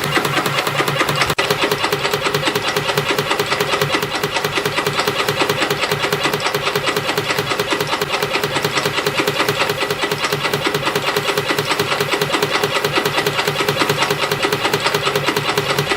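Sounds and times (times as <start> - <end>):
rapid even machine clicking: 0.0 - 15.9
steady machine hum: 0.0 - 15.9.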